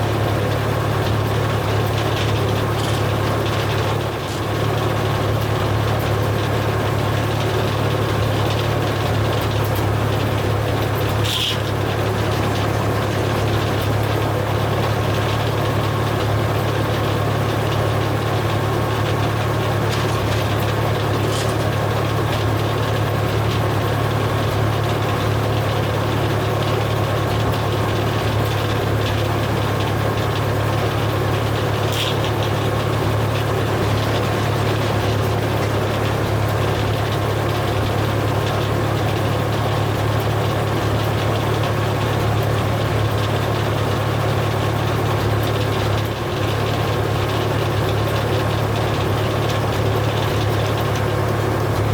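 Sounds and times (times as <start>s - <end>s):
engine humming steadily: 0.0s - 51.9s.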